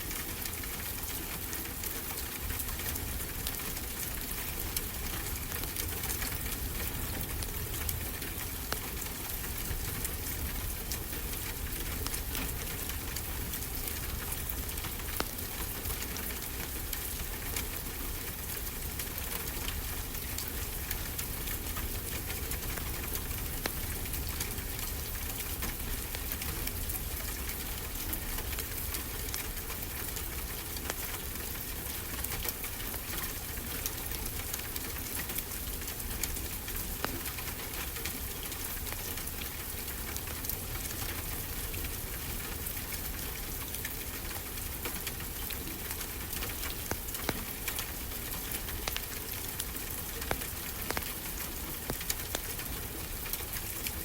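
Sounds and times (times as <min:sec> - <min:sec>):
wood fire crackling: 0:04.2 - 0:54.0.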